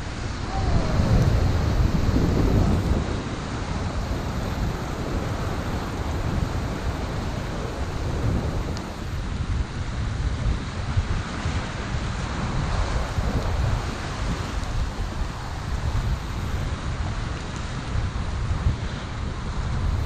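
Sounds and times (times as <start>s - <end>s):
waves breaking on rocks: 0.0s - 20.0s
wind buffeting microphone: 0.0s - 20.0s.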